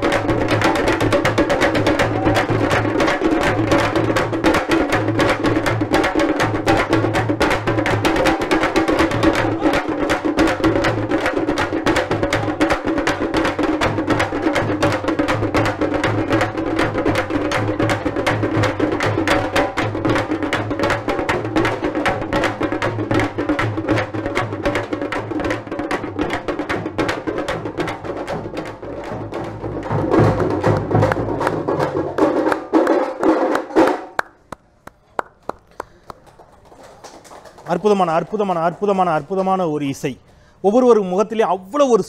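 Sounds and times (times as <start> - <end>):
frame drums beaten with sticks: 0.0 - 34.2
barrel drum: 0.0 - 34.8.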